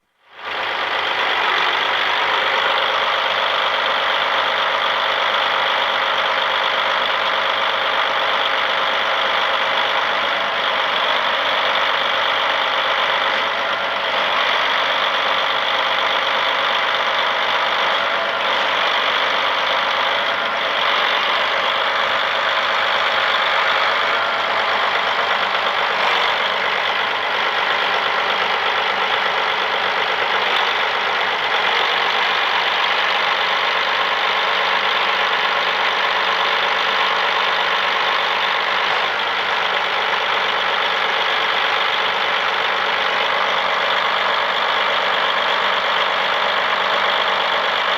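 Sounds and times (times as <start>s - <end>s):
tractor diesel engine idling: 0.0s - 47.9s.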